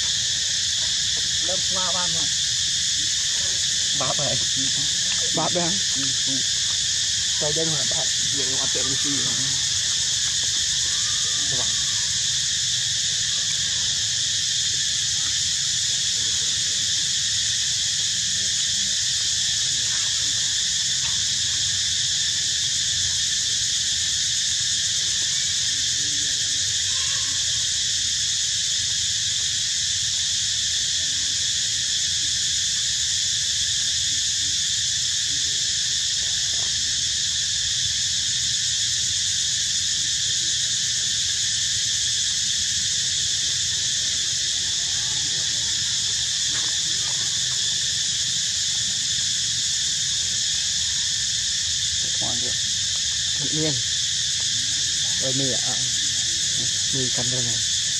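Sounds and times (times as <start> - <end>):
high-pitched insect chorus: 0.0 - 57.9.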